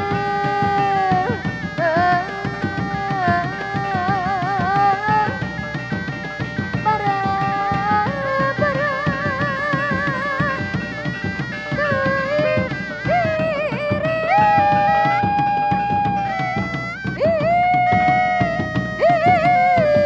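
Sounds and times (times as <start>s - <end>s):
hand drum strokes: 0.0s - 20.0s
wavering melody with vibrato: 0.0s - 20.0s.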